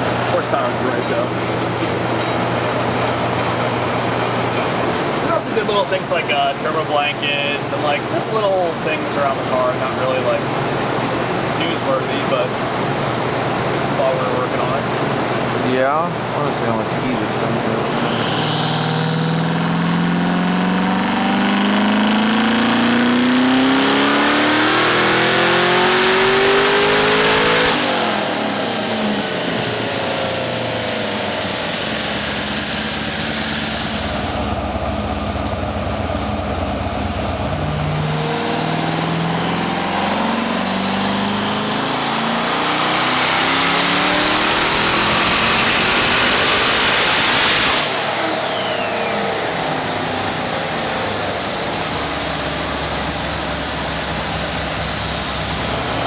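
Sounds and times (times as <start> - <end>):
engine revving on dyno: 0.0 - 56.0.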